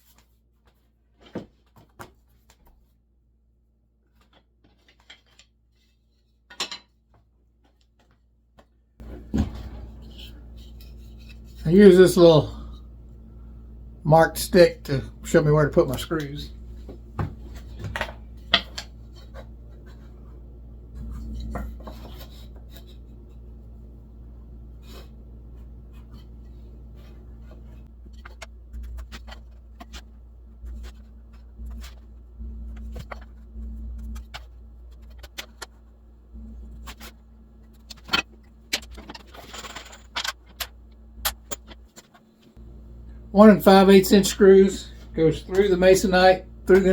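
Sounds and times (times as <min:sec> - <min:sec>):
steady low hum: 0:09.0 - 0:46.9.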